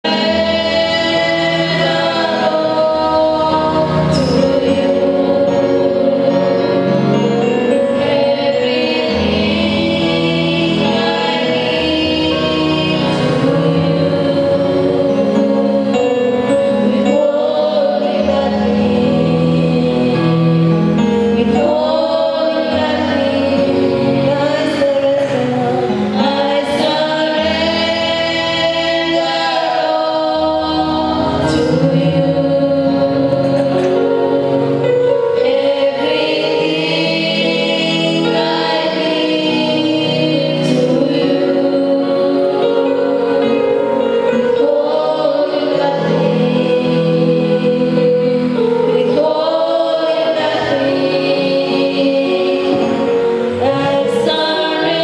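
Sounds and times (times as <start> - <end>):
bass accompaniment: 0.0 - 55.0
choir singing gospel song: 0.0 - 55.0.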